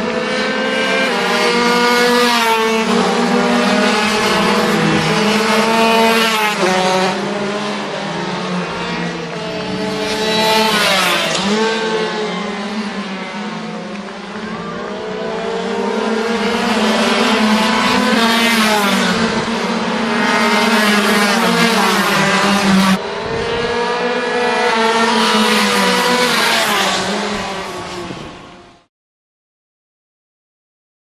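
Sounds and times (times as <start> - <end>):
racing motorcycles at high revs: 0.0 - 28.4.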